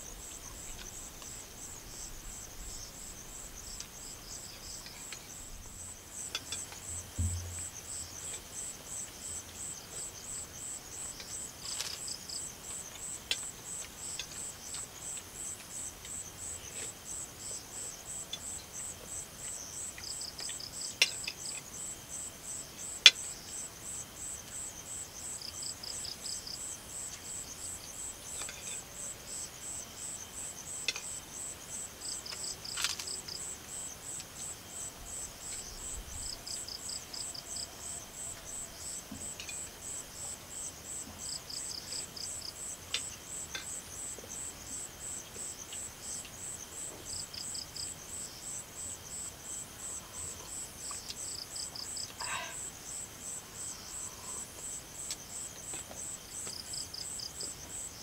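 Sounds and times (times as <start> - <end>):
insect high-pitched pulsing chirp: 0.0 - 58.0
insect rapid trill: 0.0 - 58.0.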